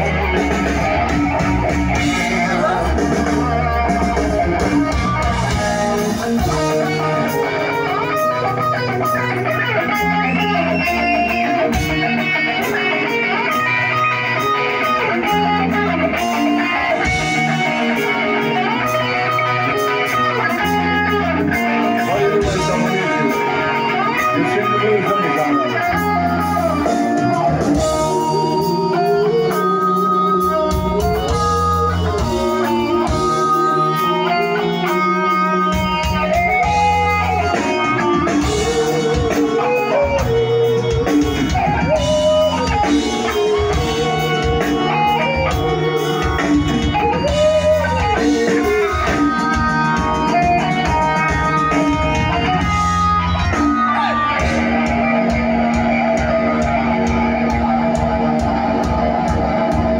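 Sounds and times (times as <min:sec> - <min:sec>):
electric guitar: 0:00.0 - 0:59.9
hard rock band playing: 0:00.0 - 0:59.9.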